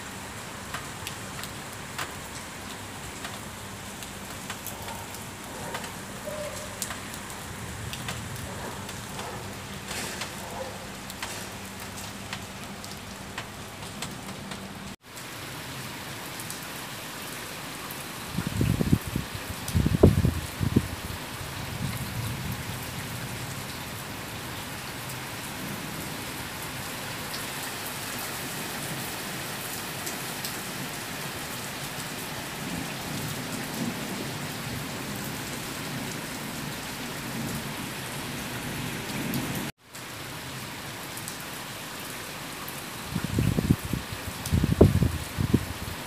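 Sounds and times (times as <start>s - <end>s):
rain falling: 0.0s - 46.0s.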